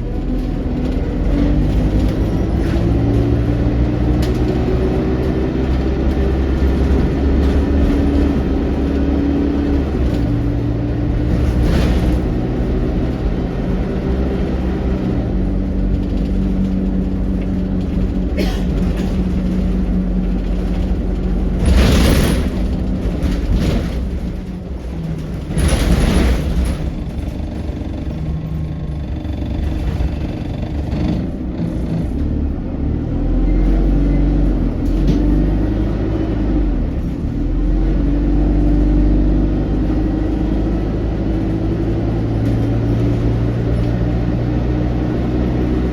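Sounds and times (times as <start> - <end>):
bus diesel engine: 0.0 - 45.9
road rumble: 0.0 - 45.9.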